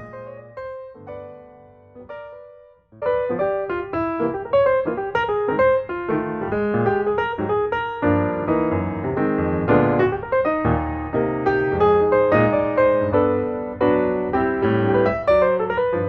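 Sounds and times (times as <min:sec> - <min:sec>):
bright piano tune: 0:00.0 - 0:16.0.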